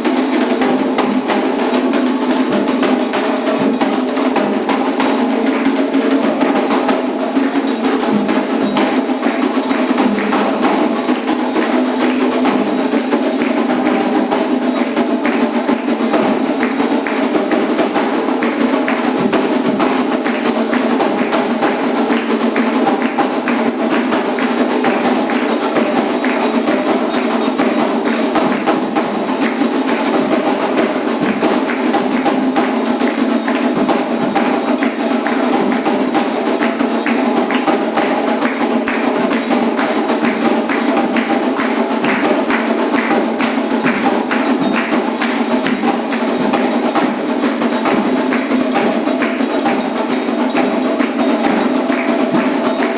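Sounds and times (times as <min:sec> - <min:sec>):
hand drums: 0:00.0 - 0:52.9
struck bell rhythm: 0:00.0 - 0:52.9.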